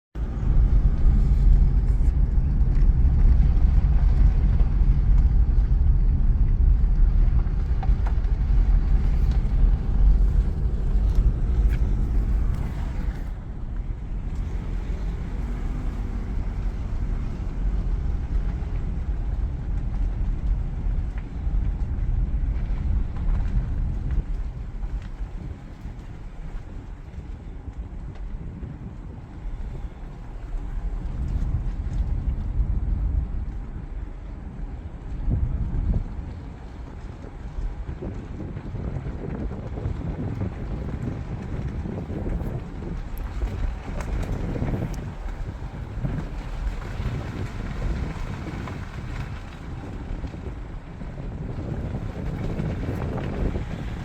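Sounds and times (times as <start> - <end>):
car driving low rumble: 0.0 - 54.0.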